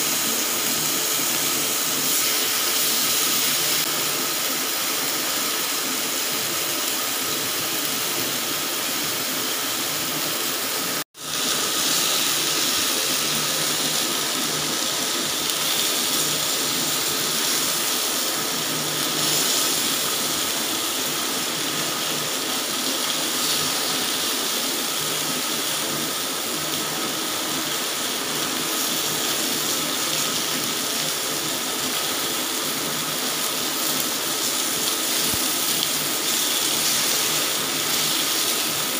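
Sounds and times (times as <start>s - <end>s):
chicken sizzling on a grill pan: 0.0s - 38.9s.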